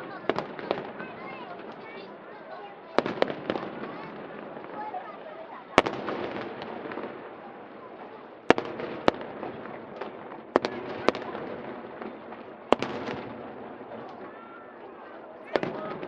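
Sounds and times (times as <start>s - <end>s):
fireworks bangs: 0.0s - 16.0s
fireworks crackle: 0.0s - 16.0s.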